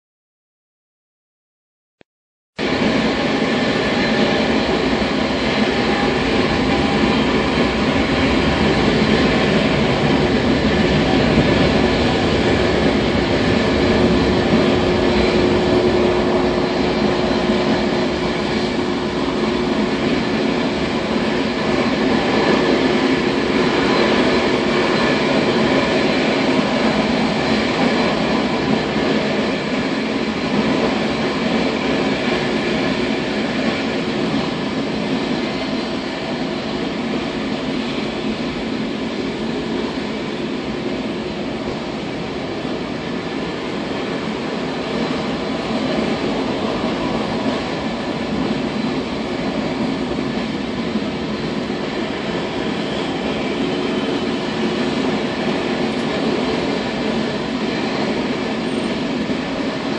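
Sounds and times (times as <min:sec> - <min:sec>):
jet engines rumbling: 0:02.6 - 0:59.9.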